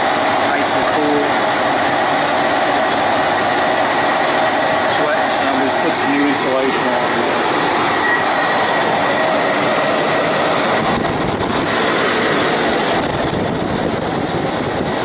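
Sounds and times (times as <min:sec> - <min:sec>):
air conditioner fan and compressor hum: 0:00.0 - 0:15.0.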